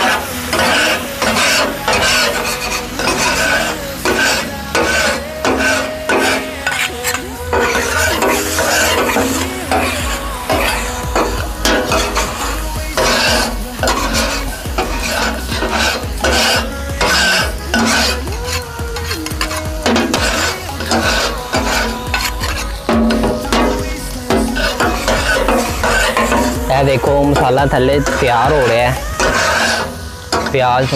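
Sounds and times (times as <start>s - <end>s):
food sizzling on griddle: 0.0s - 30.9s
metal spatulas scraping griddle: 0.0s - 30.9s.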